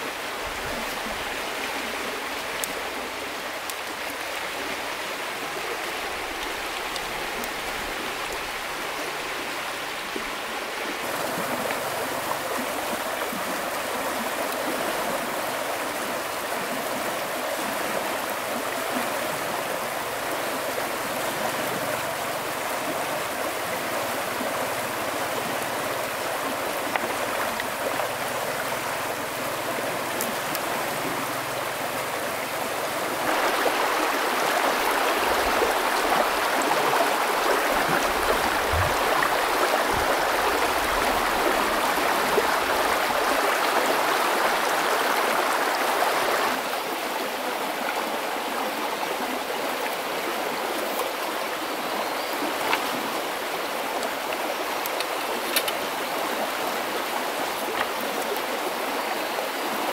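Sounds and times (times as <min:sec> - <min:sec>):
stream water flowing over rocks: 0:00.0 - 0:59.9.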